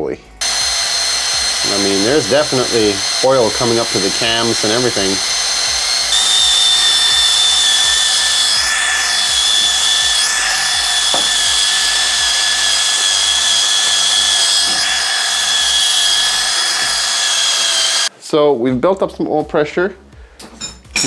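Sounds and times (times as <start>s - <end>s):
electric drill whining: 0.4s - 18.1s.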